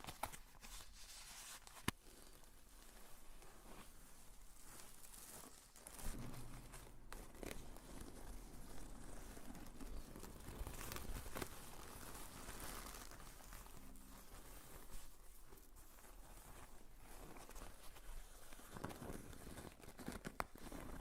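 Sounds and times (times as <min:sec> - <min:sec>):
rustling and crinkling: 0:00.0 - 0:21.0.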